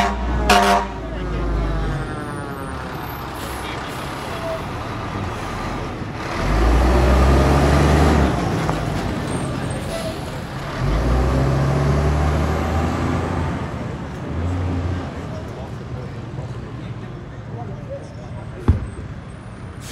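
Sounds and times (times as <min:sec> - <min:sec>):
diesel truck engine rumble: 0:00.0 - 0:19.9.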